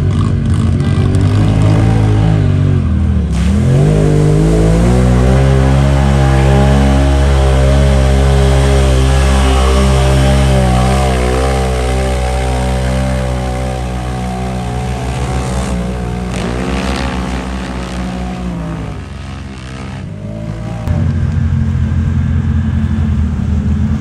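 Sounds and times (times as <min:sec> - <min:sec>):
engine revving hard: 0:00.0 - 0:21.4.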